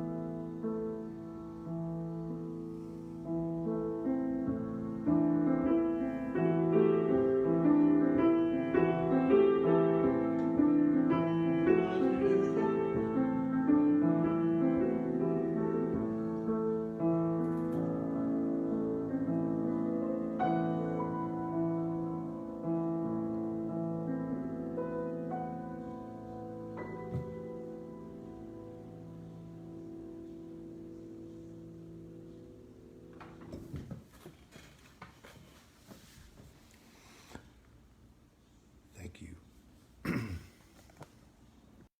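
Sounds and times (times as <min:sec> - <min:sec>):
solo piano improvisation: 0:00.0 - 0:33.9.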